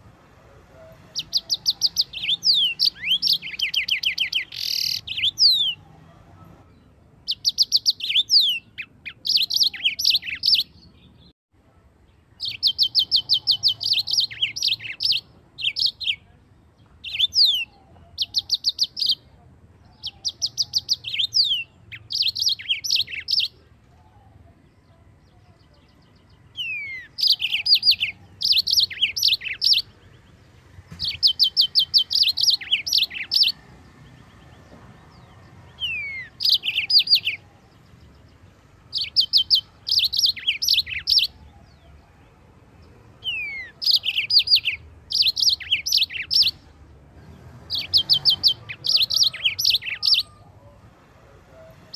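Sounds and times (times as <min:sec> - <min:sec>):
canary singing trills and whistles: 0:00.8 - 0:05.9, 0:07.2 - 0:11.3, 0:12.3 - 0:16.3, 0:17.0 - 0:42.0, 0:43.2 - 0:50.8.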